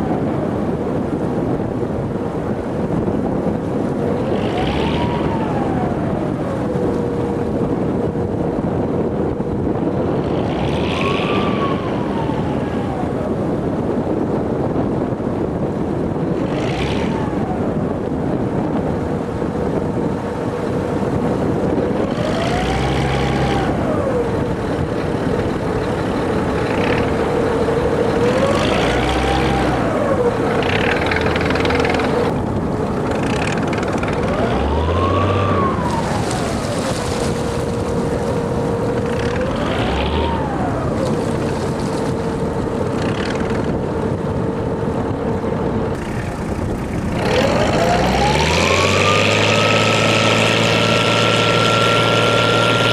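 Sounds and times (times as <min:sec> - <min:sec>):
boat engine revving: 0:00.0 - 0:52.9.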